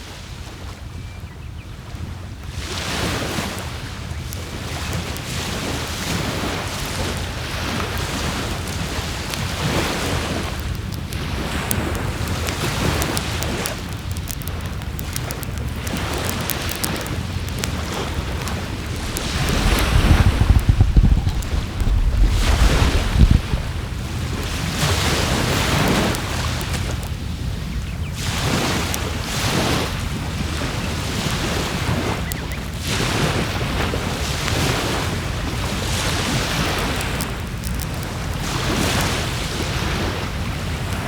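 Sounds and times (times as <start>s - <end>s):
wind rumble on microphone: 0.0s - 41.0s
waves washing onto shore: 1.8s - 41.0s
wood fire crackling: 3.0s - 41.0s.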